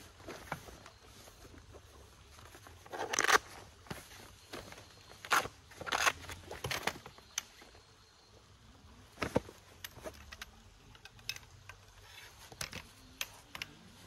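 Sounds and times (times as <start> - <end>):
camping gear clicks and clinks: 0.0 - 7.9, 9.0 - 14.0.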